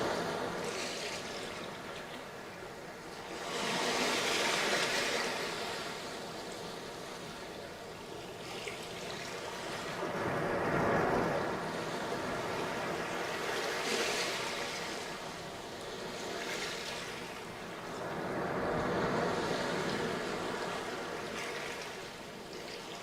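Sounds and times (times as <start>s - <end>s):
sea waves breaking on beach: 0.0s - 23.0s.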